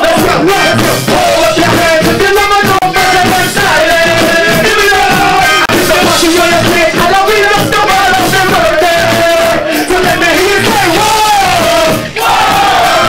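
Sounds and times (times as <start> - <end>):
hip-hop beat: 0.0 - 13.0
singing voice: 0.0 - 13.0.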